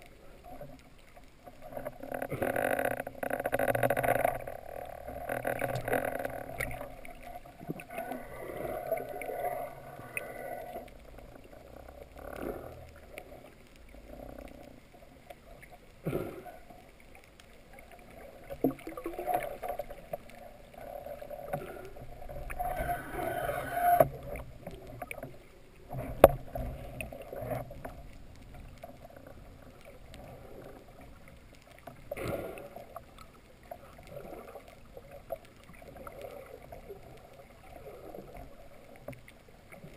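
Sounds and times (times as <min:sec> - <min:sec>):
muffled underwater water washing: 0:00.0 - 0:39.9.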